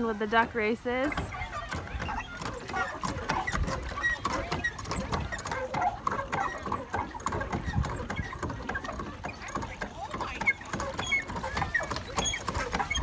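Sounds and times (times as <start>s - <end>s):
hand pump squeaking and clanking: 0.0s - 13.0s
water sloshing in a trough: 0.0s - 13.0s.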